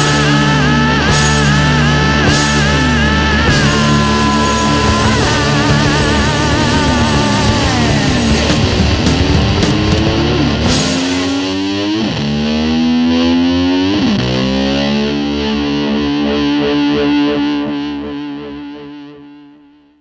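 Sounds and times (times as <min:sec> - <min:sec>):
distorted electric guitar: 0:00.0 - 0:20.0.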